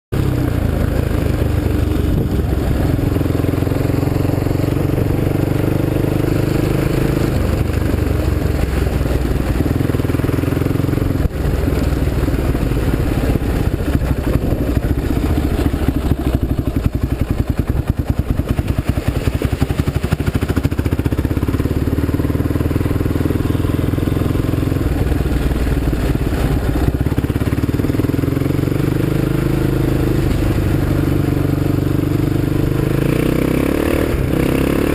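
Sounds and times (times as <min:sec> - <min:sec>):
quad bike engine running: 0:00.2 - 0:34.9.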